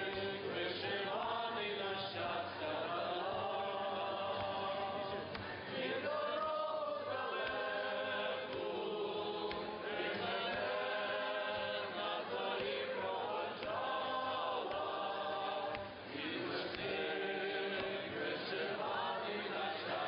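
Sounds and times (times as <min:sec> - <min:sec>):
group of voices singing: 0:00.0 - 0:20.0.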